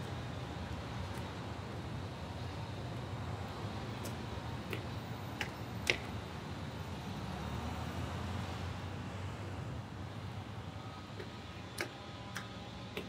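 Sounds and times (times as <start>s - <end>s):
city background rumble: 0.0s - 13.0s.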